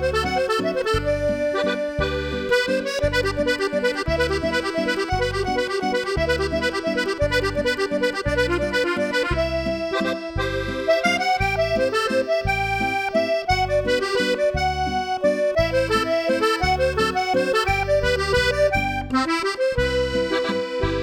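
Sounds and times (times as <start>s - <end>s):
accordion playing a waltz: 0.0s - 21.0s.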